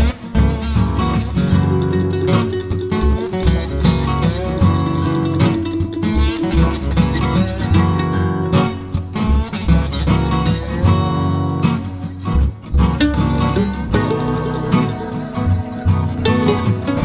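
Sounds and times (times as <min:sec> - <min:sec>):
acoustic guitar strumming: 0:00.0 - 0:17.0
bass line: 0:00.0 - 0:17.0.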